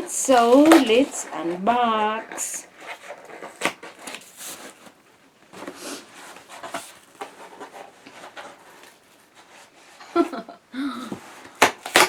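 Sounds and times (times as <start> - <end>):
packaging rustling and scraping: 0.0 - 10.2.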